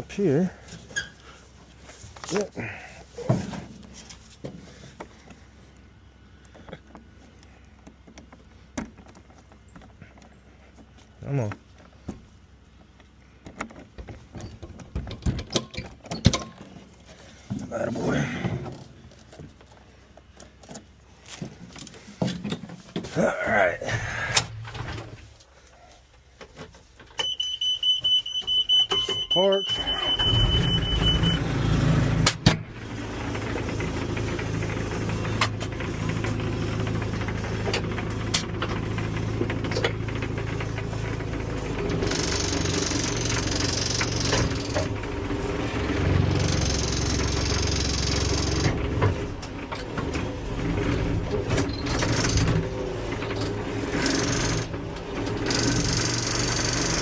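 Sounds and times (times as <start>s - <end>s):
backhoe diesel engine rattling: 0.0s - 25.4s, 27.2s - 57.0s.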